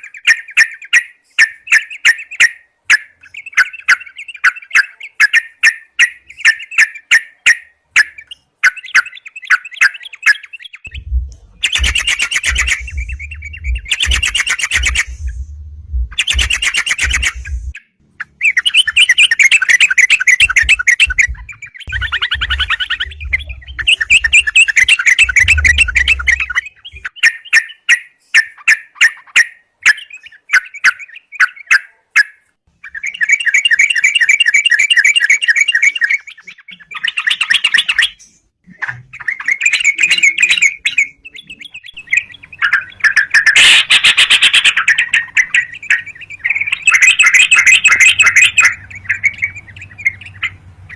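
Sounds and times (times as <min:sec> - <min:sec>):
bird singing bubbling chatter: 0:00.0 - 0:31.8, 0:32.8 - 0:50.9.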